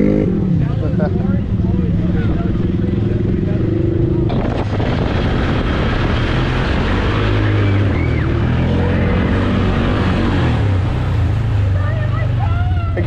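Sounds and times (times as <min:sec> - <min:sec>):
atv engine running under load: 0:00.0 - 0:13.0
wheels splashing through water: 0:01.0 - 0:13.0.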